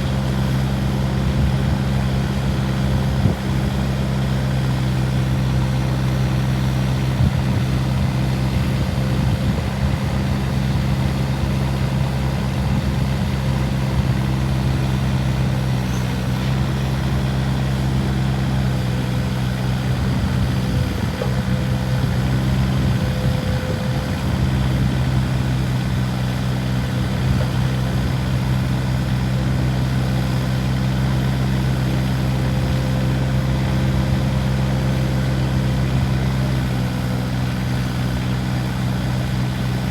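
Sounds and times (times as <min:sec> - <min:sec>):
mini excavator diesel engine running: 0:00.0 - 0:39.9.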